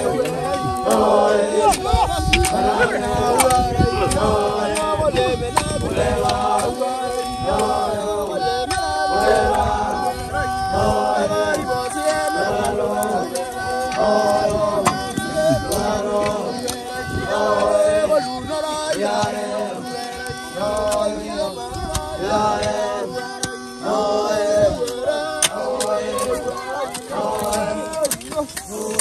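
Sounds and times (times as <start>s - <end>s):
men chanting in unison: 0.0s - 29.0s.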